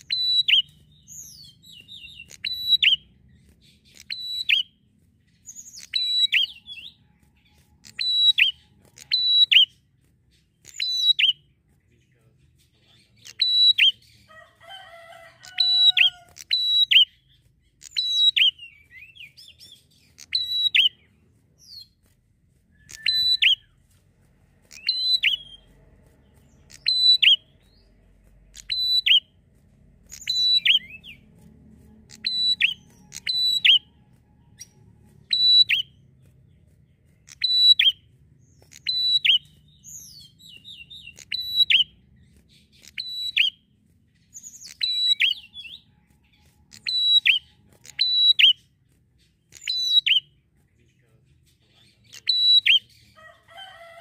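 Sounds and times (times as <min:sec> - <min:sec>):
bird chirping high phrases: 0:00.0 - 0:54.0.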